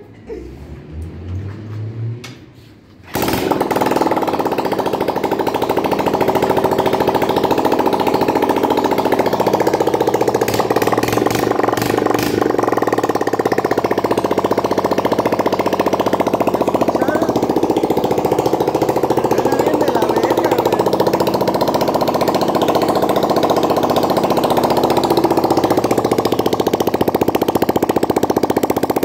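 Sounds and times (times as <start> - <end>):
dirt bike engine kick-started: 3.0 - 29.0
loud open exhaust engine beat: 3.1 - 29.0.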